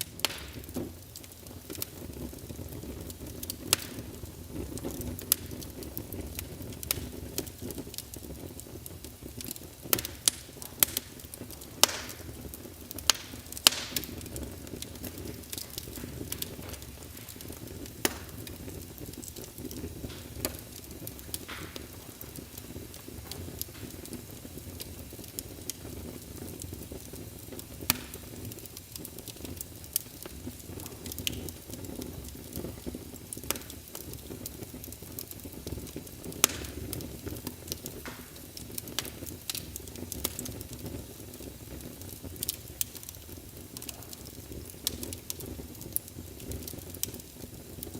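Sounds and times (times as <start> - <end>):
fire crackling and popping: 0.0 - 47.9
low rumble of flames: 0.0 - 47.9.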